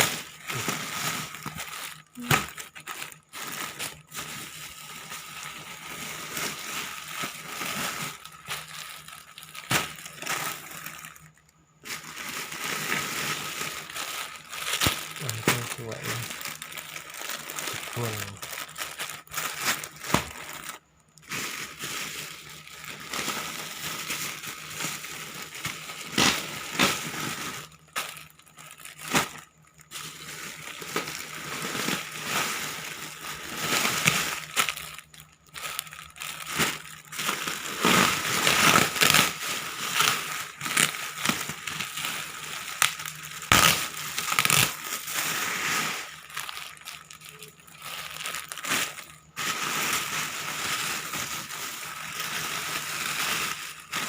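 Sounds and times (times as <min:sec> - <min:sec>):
plastic packaging crinkling: 0:00.0 - 0:54.0.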